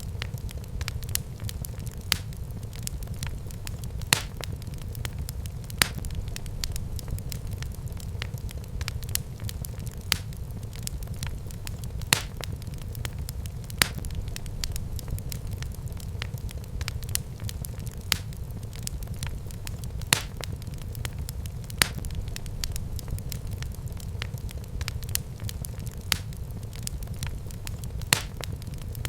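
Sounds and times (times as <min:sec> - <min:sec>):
fire crackles: 0:00.0 - 0:29.0
low rumble of flames: 0:00.0 - 0:29.0
sharp fire pops: 0:00.0 - 0:29.0.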